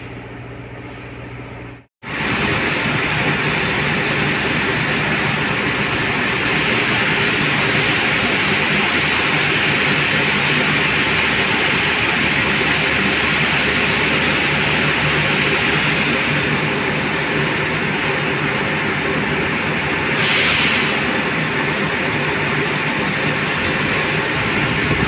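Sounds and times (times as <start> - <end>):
low machinery hum: 0.0 - 25.0
factory machinery hiss: 2.1 - 25.0.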